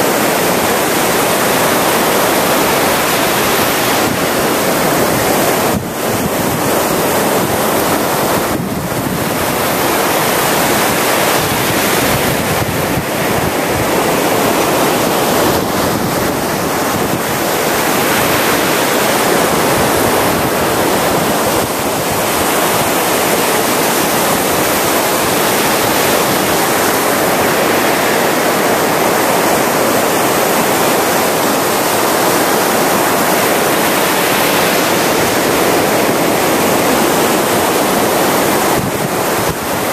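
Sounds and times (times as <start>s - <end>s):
surf waves breaking on beach: 0.0s - 39.9s.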